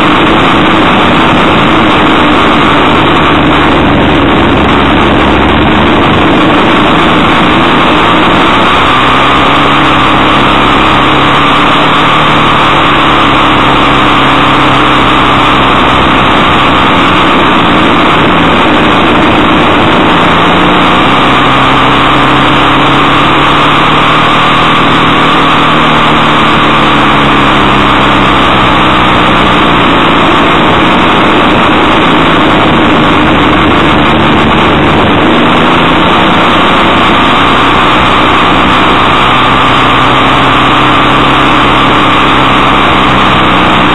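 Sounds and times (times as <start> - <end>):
motorcycle engine revving: 0.0 - 43.9
wind and road noise: 0.0 - 43.9.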